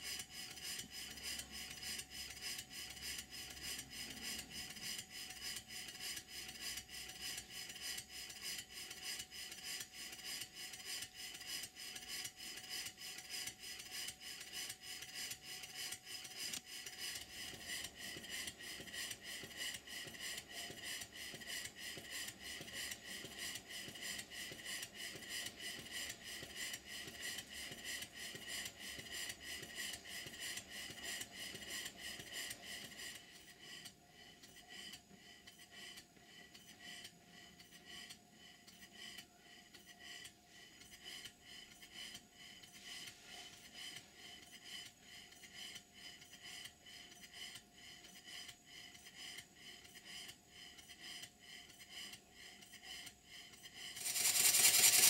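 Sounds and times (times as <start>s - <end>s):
model steam engine hissing exhaust: 0.0s - 55.0s.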